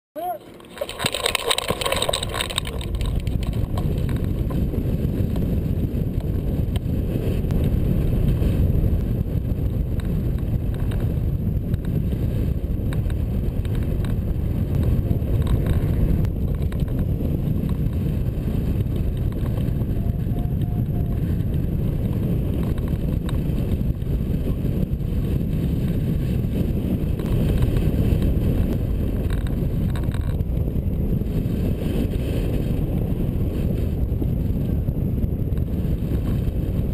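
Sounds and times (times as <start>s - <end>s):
wind buffeting microphone: 0.2s - 36.9s.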